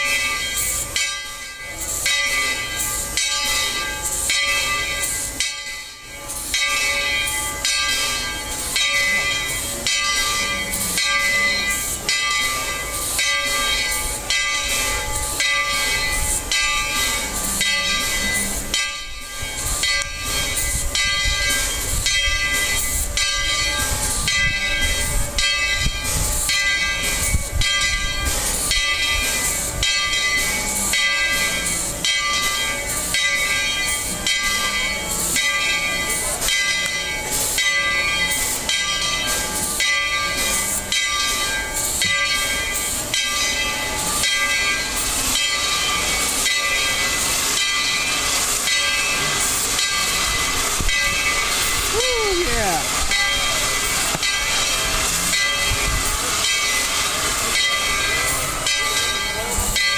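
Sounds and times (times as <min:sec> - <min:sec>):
rhythmic locomotive strokes: 0:00.0 - 0:59.9
steam locomotive hissing: 0:00.0 - 0:59.9.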